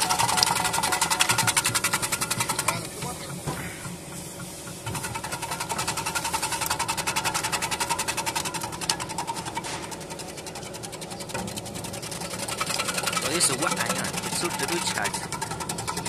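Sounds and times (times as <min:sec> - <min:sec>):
vegetable cutting machine clattering: 0:00.0 - 0:16.0.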